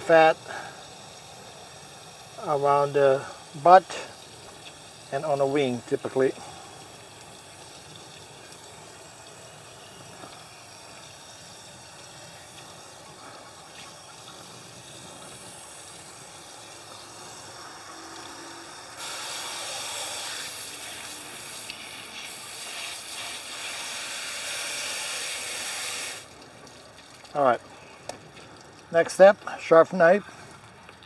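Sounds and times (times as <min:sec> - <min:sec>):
hose spray hissing and spattering: 0:00.0 - 0:26.3.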